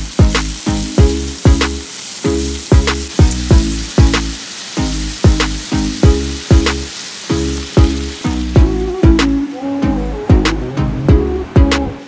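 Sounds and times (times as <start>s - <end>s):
meatballs and onions sizzling: 0.0s - 12.0s
music with deep drum beat: 0.0s - 12.0s.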